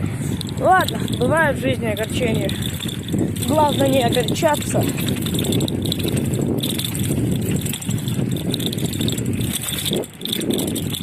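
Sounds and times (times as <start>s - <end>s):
bicycle rattling over bumpy road: 0.0s - 11.0s.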